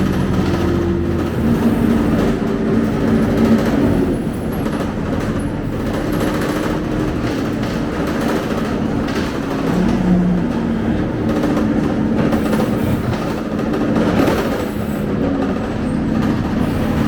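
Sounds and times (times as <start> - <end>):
bus diesel engine: 0.0 - 17.0.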